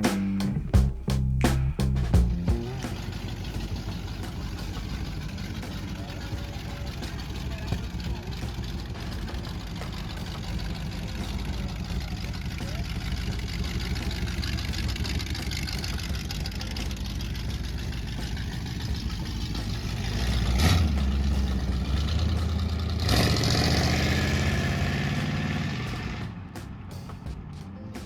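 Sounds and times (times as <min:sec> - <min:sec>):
car engine running: 0:00.0 - 0:26.3.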